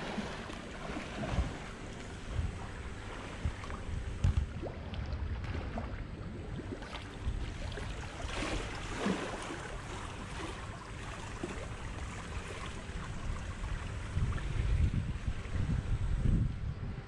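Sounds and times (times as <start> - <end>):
pool water splashing and lapping: 0.0 - 16.6.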